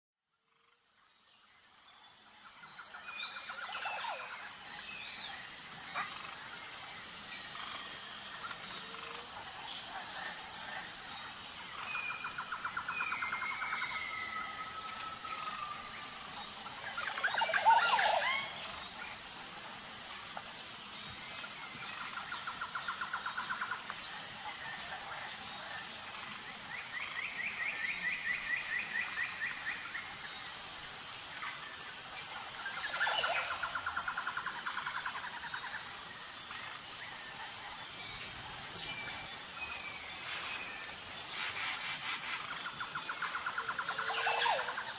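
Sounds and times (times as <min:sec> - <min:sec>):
high insect buzz: 0:00.5 - 0:44.9.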